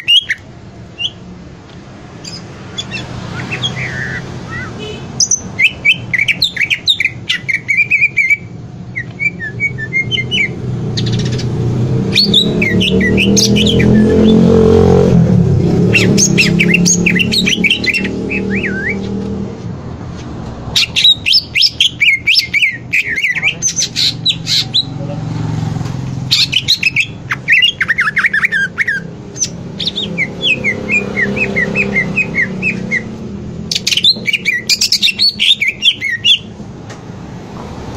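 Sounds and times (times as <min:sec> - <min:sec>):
bird chirping and trilling: 0:00.0 - 0:01.3, 0:02.1 - 0:19.4, 0:20.6 - 0:36.6.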